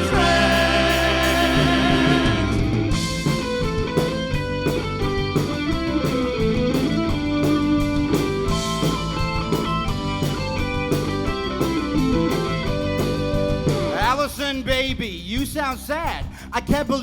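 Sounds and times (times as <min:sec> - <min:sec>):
electric guitar chords: 0:00.0 - 0:14.0
drum hits: 0:00.0 - 0:14.1
bass guitar: 0:00.0 - 0:17.0.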